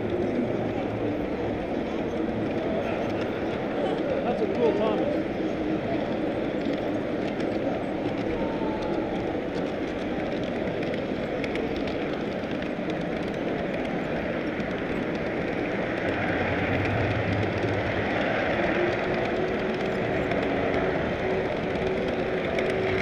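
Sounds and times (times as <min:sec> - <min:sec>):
busy hall background noise: 0:00.0 - 0:23.0
model train wheels rumbling: 0:00.0 - 0:23.0.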